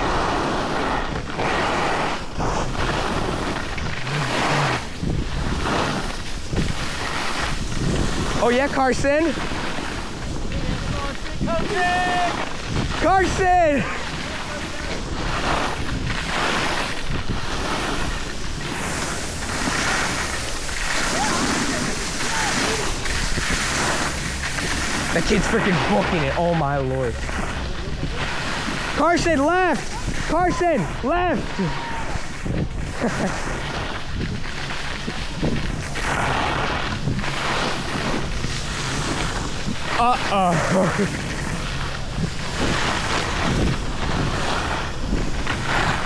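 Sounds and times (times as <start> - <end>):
skis sliding on snow: 0.0 - 46.0
wind rushing over microphone: 0.0 - 46.0.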